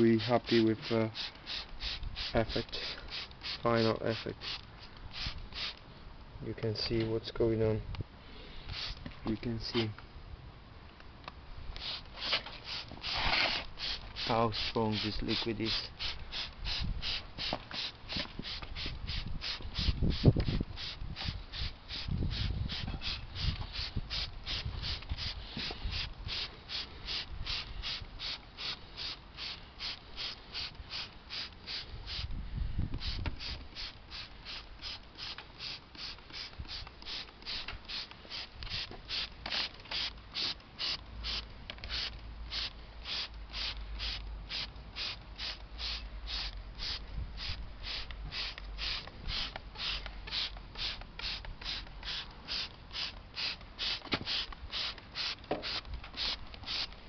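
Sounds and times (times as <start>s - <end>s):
spray bottle squirting: 0.3s - 5.8s, 8.7s - 9.1s, 11.8s - 32.3s, 33.0s - 57.0s.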